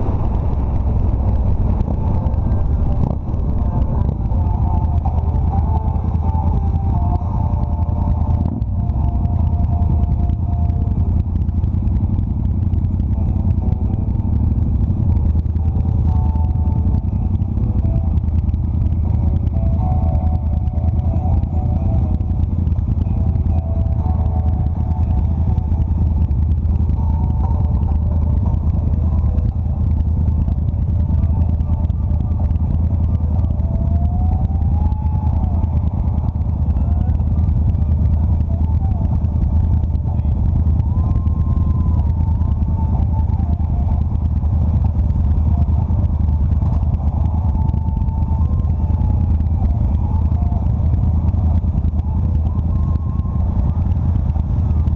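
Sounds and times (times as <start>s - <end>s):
motorcycle engine rumbling: 0.0s - 54.9s
other motorcycle engines: 0.0s - 54.9s.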